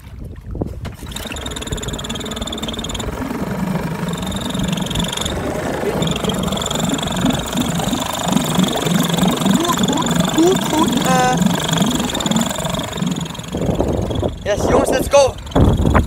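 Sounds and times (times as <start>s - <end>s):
outboard motor idling: 0.9s - 16.0s
thin high whine: 1.1s - 16.0s.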